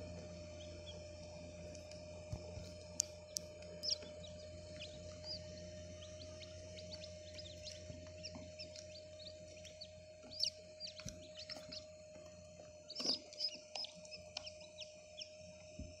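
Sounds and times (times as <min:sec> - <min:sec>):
chicks peeping: 0:00.0 - 0:16.0
small fan humming: 0:00.0 - 0:16.0.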